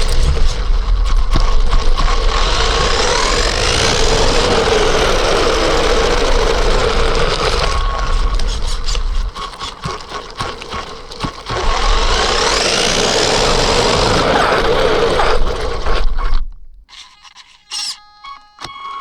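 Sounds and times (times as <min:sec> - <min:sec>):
toy truck motor whining: 0:00.0 - 0:19.0.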